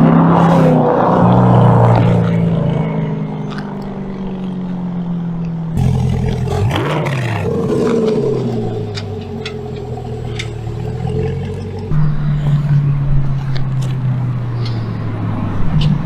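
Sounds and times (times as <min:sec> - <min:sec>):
car engine with deep exhaust tone: 0:00.0 - 0:16.0.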